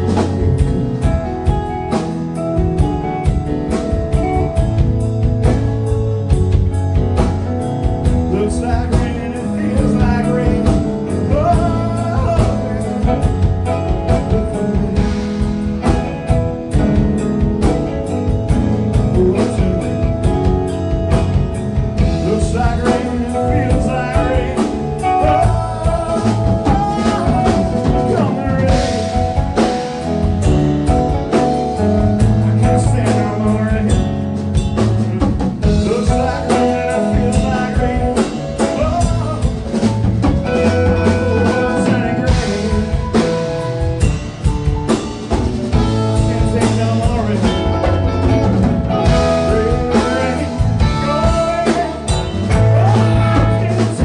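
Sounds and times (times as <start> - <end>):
bass guitar: 0.0 - 54.0
drum kit beat: 0.0 - 54.0
lead guitar bending notes: 0.0 - 54.0.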